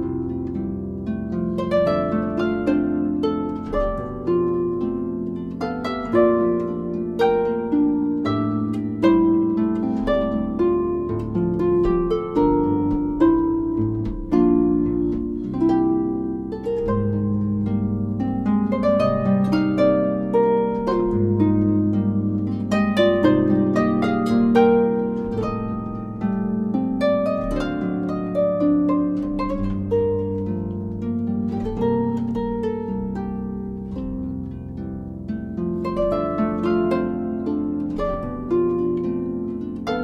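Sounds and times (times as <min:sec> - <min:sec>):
harp music: 0:00.0 - 0:40.0.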